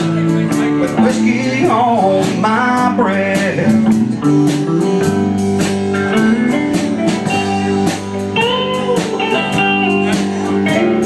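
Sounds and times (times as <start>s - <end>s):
drum kit beat: 0.0s - 11.0s
electric guitar bending notes: 0.0s - 11.0s
live country band playing: 0.0s - 11.0s
strummed guitar: 0.0s - 11.0s.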